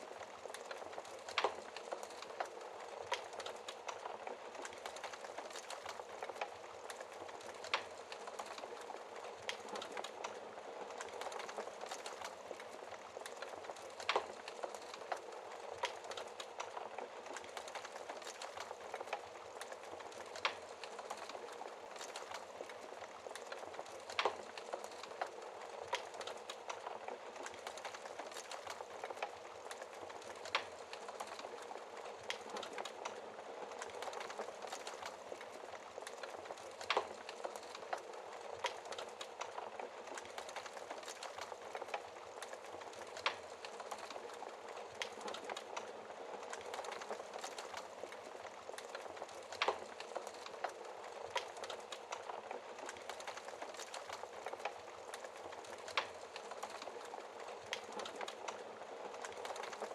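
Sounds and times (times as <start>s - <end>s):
wood fire crackling in fireplace: 0.0s - 59.9s.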